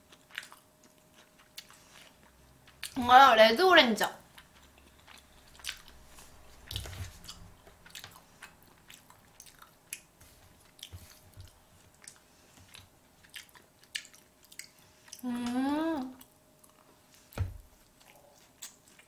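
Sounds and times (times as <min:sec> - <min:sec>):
person chewing: 0:00.0 - 0:03.0, 0:04.3 - 0:19.0.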